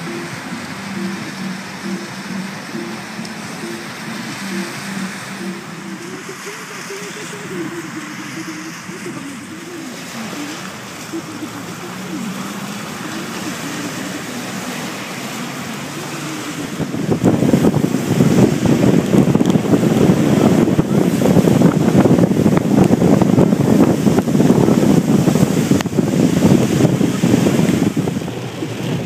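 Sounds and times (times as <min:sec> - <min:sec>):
car engine humming: 0:00.0 - 0:29.0
rain: 0:00.0 - 0:29.0
tyres rushing on wet road: 0:00.0 - 0:29.0
wind: 0:00.0 - 0:29.0.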